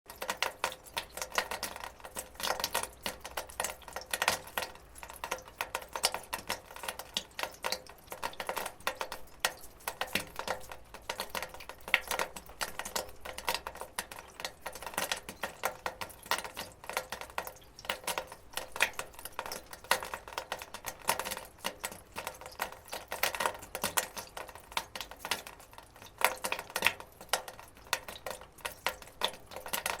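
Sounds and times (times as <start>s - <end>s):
water dripping on metal gutter: 0.1s - 30.0s.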